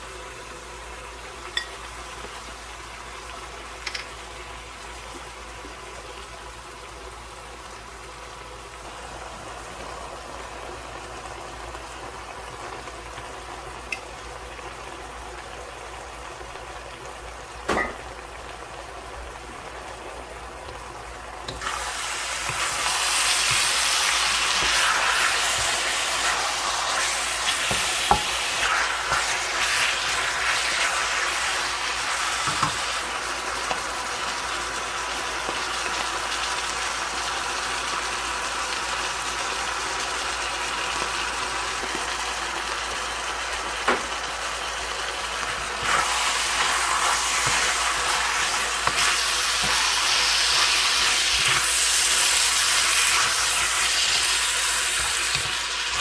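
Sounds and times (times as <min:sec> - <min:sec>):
chicken sizzling in a wok: 0:00.0 - 0:56.0.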